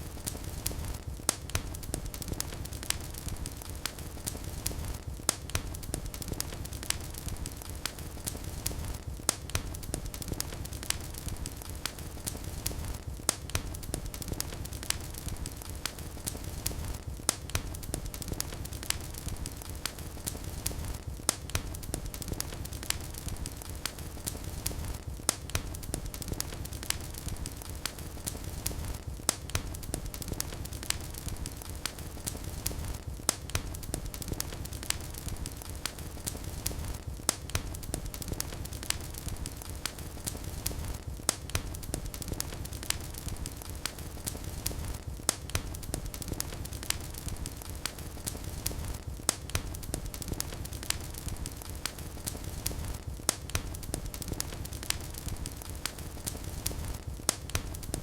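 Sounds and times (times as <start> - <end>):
fire popping: 0.0 - 58.0
low rumble of flames: 0.0 - 58.0
wood fire crackling: 0.0 - 58.0.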